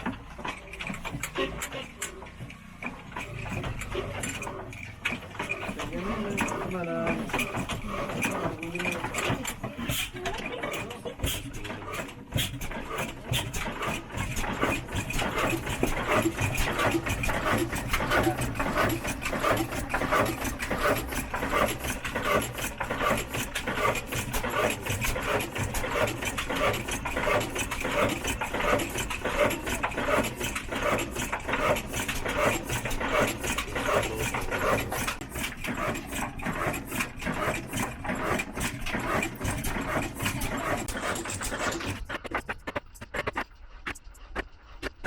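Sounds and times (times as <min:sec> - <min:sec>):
diesel engine and mill machinery clattering: 0:00.0 - 0:45.0.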